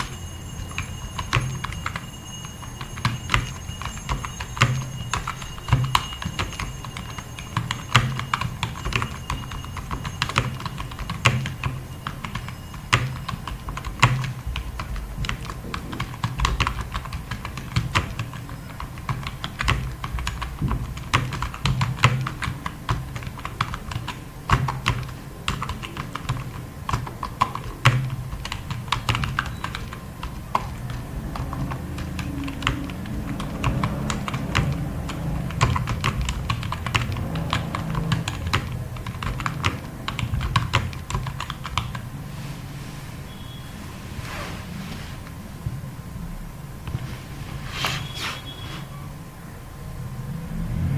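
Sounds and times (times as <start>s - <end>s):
fast typing on keyboard: 0.0s - 42.2s.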